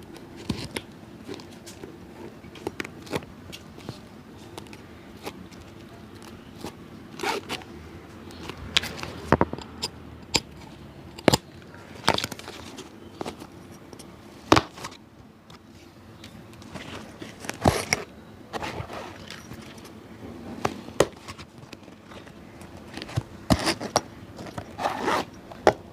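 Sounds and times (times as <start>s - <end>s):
low steady hum: 0.0s - 25.9s.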